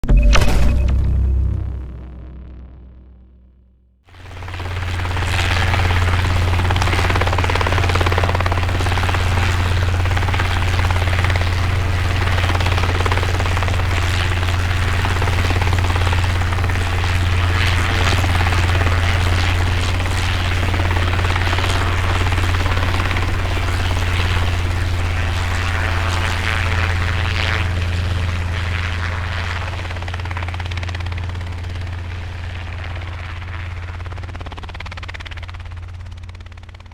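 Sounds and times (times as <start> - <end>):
helicopter rotor beat: 4.1 - 36.9.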